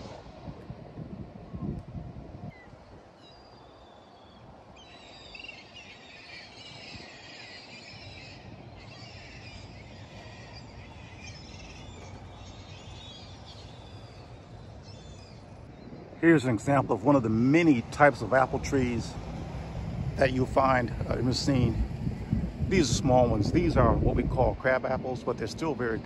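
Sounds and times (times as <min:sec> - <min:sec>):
low outdoor background noise: 0:00.0 - 0:26.0
birds chirping: 0:02.4 - 0:26.0.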